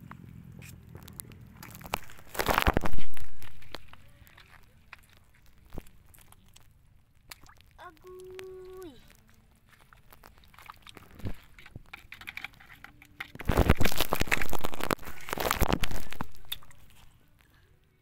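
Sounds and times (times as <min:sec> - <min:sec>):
scratches and taps on rocks: 0:00.6 - 0:06.8, 0:08.2 - 0:17.5
crabs crackling in plastic bucket: 0:00.8 - 0:17.2.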